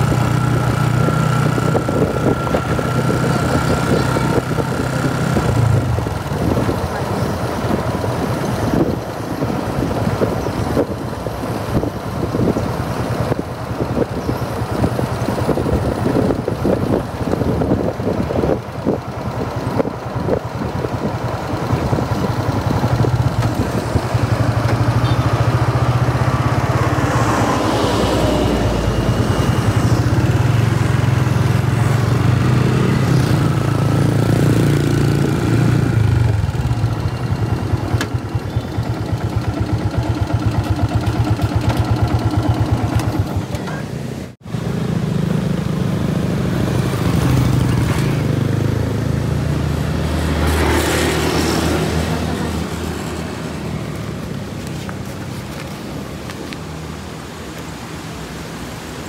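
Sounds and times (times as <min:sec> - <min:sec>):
motorcycle engine running: 0:00.0 - 0:56.5.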